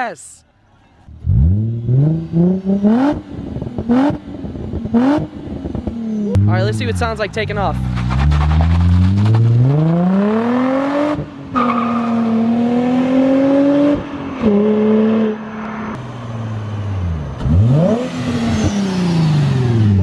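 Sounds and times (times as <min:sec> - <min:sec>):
car engine accelerating hard: 0:01.1 - 0:20.0.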